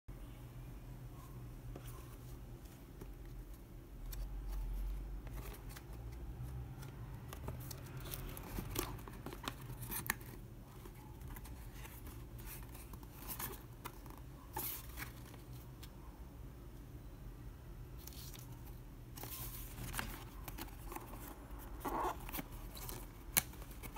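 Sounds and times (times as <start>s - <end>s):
faint low hum: 0.1s - 23.9s.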